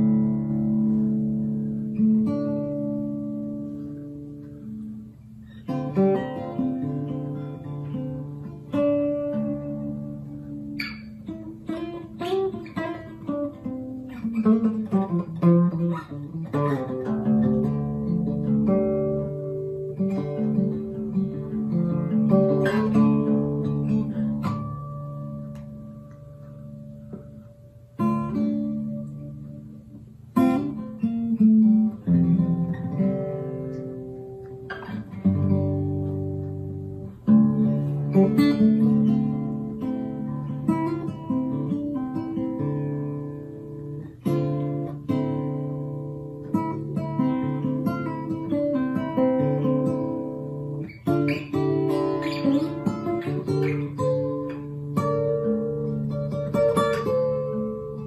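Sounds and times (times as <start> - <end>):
acoustic guitar chords: 0.0 - 58.0.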